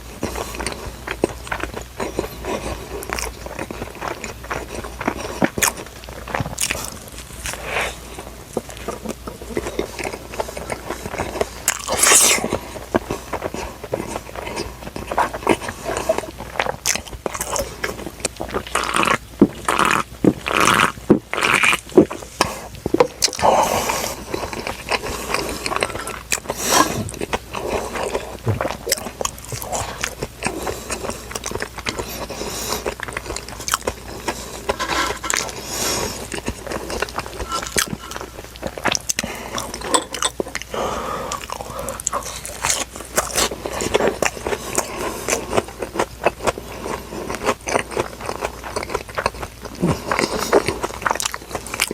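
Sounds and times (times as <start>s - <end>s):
crunchy bites and chewing: 0.0s - 51.9s.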